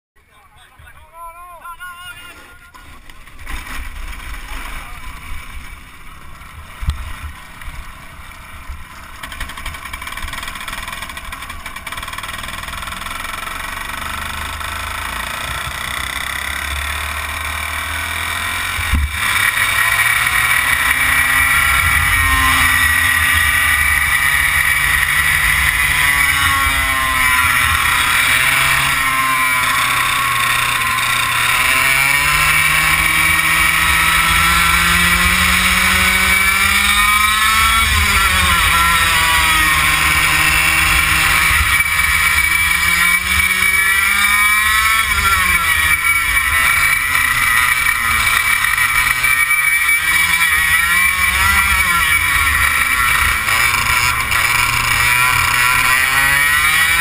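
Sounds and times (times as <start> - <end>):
kart engine revving: 2.2 - 57.0.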